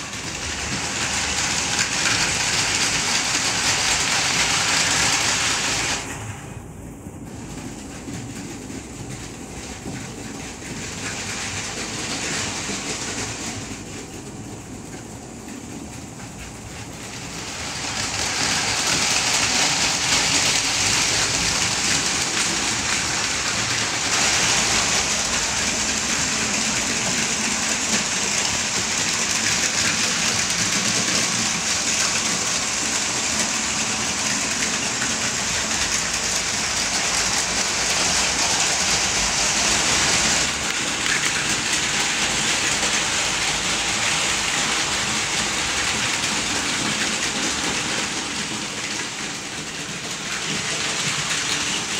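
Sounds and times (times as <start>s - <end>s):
toy trains whirring rattle: 0.0s - 6.4s, 7.2s - 51.9s.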